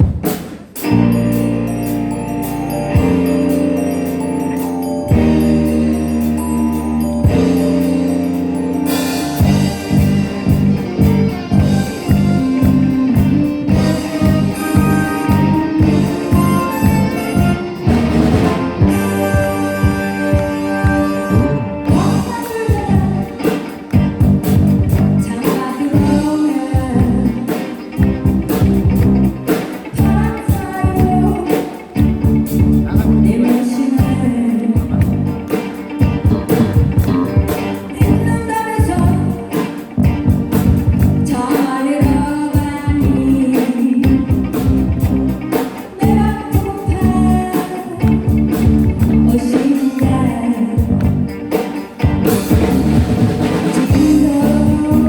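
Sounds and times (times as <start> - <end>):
rock band music with singing: 0.0 - 55.0.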